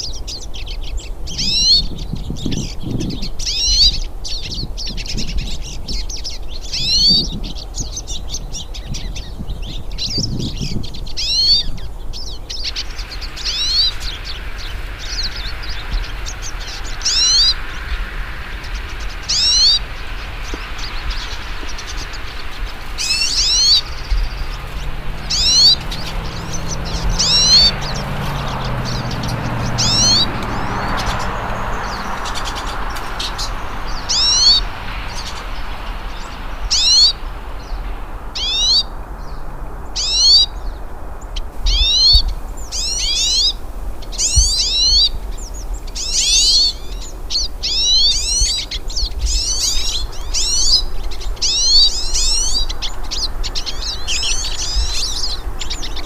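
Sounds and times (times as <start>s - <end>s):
small songbirds singing: 0.0s - 56.0s.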